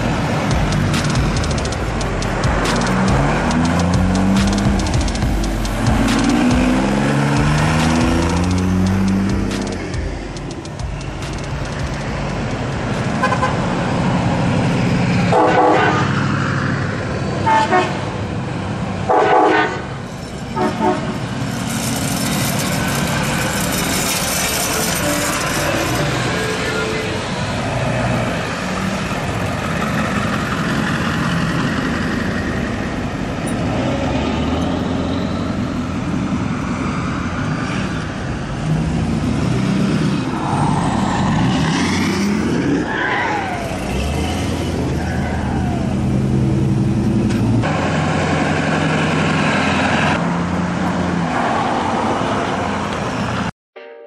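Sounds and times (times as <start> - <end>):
truck engines passing: 0.0 - 53.5.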